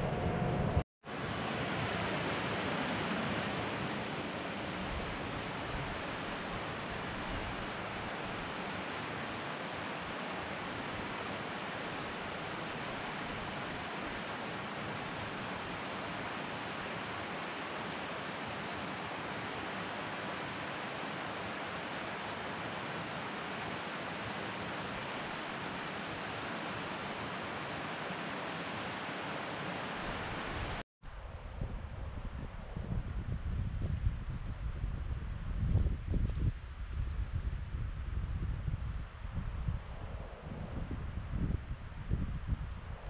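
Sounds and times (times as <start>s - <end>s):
steady rushing noise: 0.0s - 43.0s.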